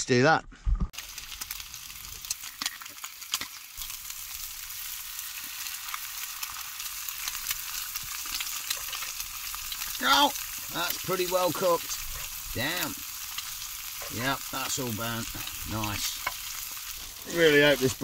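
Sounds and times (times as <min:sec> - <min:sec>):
food sizzling in oil: 0:01.0 - 0:18.0.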